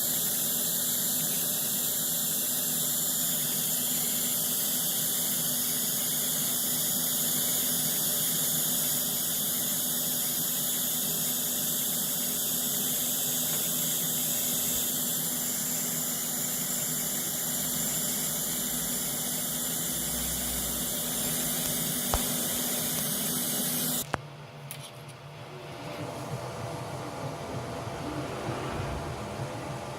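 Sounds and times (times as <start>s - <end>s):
welding arc hissing and buzzing: 0.0s - 24.2s
fan-like hum: 0.0s - 29.9s.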